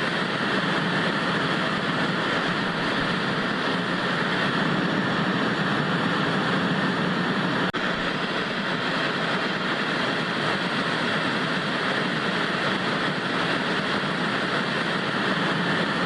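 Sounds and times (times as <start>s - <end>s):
tv static hiss: 0.0s - 16.0s.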